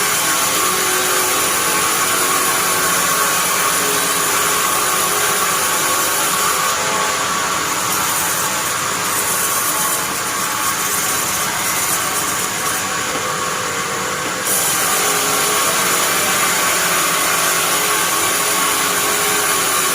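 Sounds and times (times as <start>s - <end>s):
bandsaw hissing: 0.0s - 19.9s.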